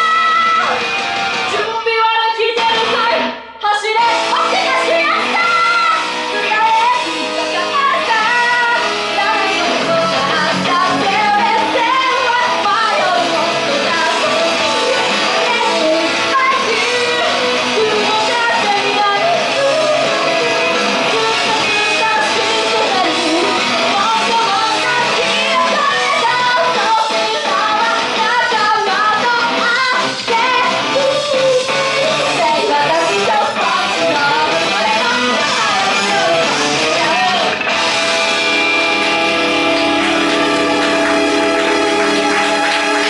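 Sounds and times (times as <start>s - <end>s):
pop-rock backing music with guitar: 0.0s - 43.0s
woman singing: 1.5s - 37.6s.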